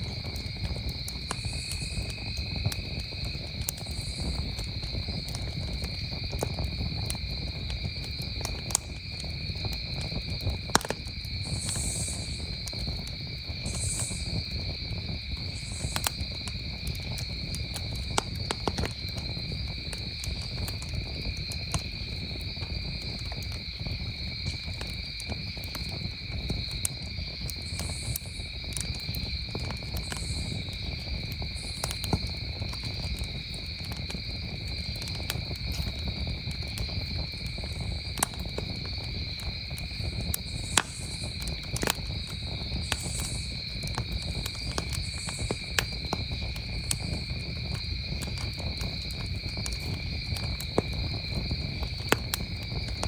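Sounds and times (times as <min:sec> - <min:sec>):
campfire crackling and popping: 0:00.0 - 0:53.0
crickets chirping: 0:00.0 - 0:53.0.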